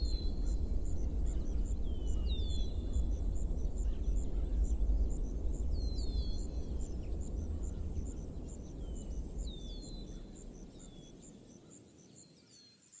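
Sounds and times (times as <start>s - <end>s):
low wind rumble: 0.0s - 11.7s
insects chirping: 0.0s - 13.0s.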